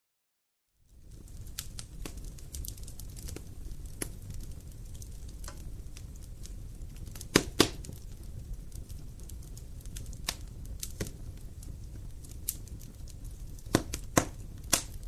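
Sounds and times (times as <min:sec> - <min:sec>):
wood fire crackling: 0:00.8 - 0:15.0.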